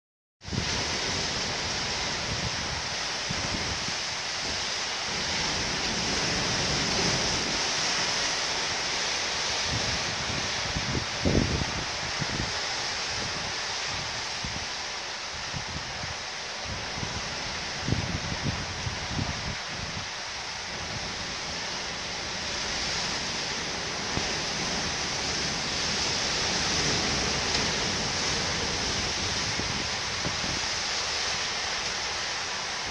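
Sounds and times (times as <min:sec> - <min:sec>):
heavy rain hissing: 0:00.4 - 0:32.9
wind gusts buffeting microphone: 0:00.4 - 0:32.9.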